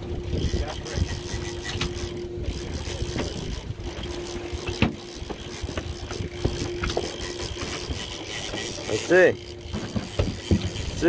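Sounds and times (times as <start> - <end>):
boat engine idling: 0.0 - 11.0
wind and water rumble: 0.0 - 11.0.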